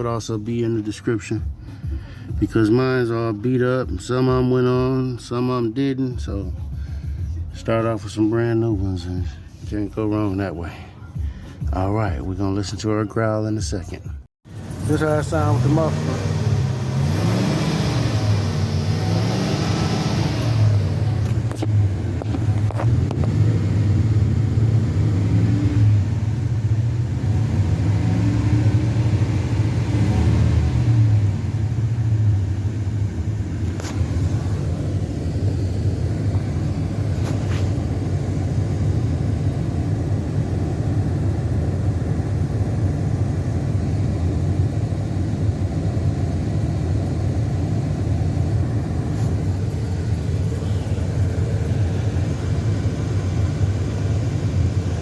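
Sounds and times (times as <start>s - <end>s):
car engine revving and idling: 0.0s - 12.9s, 14.0s - 55.0s.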